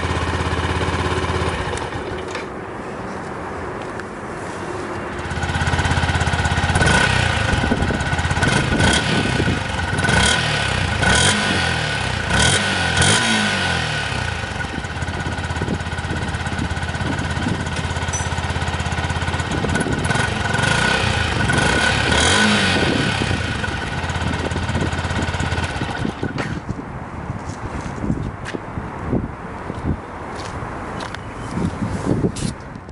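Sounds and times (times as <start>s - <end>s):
motorcycle engine idling and revving: 0.0s - 3.2s, 4.0s - 29.9s.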